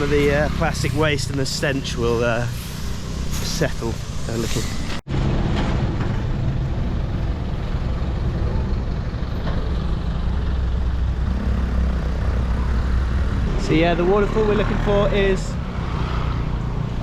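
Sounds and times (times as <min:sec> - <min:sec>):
street noise: 0:00.0 - 0:17.0
vehicle engines humming: 0:00.0 - 0:17.0.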